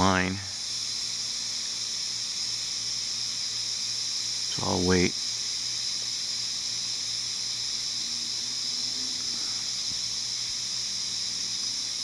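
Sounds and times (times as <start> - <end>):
sprinkler water hissing: 0.0 - 12.0.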